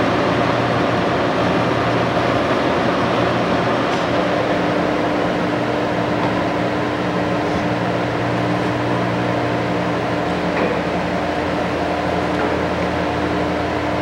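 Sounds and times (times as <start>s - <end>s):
lathe motor humming: 0.0s - 14.0s
steady machine whine: 0.0s - 14.0s.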